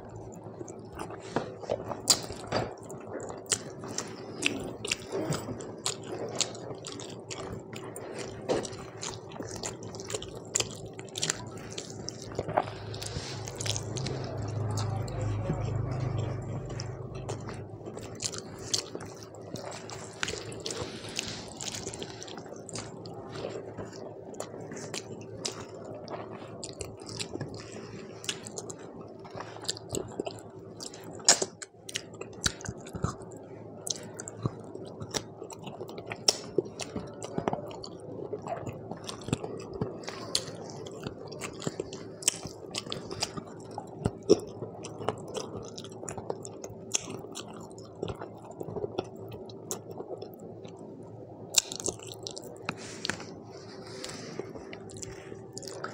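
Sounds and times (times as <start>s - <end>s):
steady low hum: 0.0s - 55.9s
close chewing: 0.2s - 50.9s, 51.5s - 55.9s.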